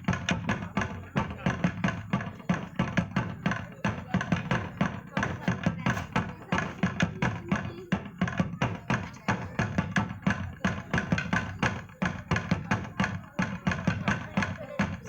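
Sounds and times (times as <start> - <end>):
fast drum and wood percussion: 0.0 - 15.0.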